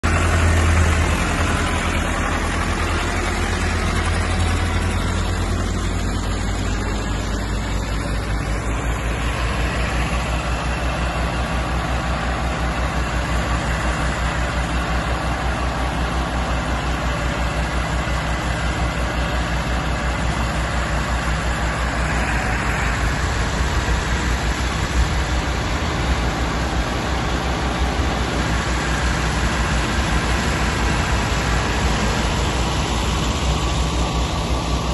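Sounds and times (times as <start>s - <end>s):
thresher churning: 0.0s - 34.9s
tractor diesel engine running: 0.0s - 34.9s.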